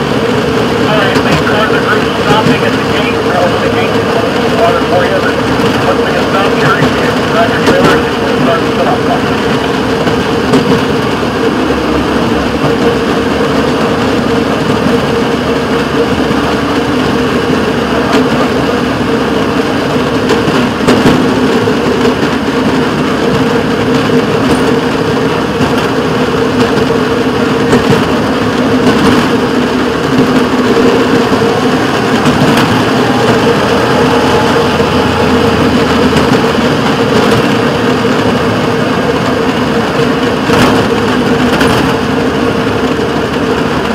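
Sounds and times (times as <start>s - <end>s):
small engine droning: 0.0s - 43.9s.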